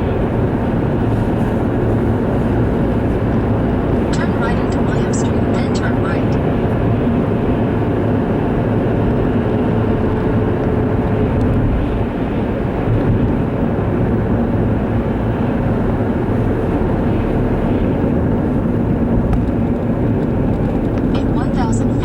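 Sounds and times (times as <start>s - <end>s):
wind gusts buffeting microphone: 0.0s - 4.2s, 6.4s - 21.4s.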